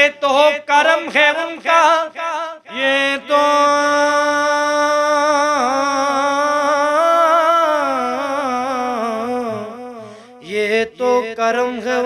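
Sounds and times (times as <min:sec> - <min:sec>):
man singing long notes: 0:00.0 - 0:12.0.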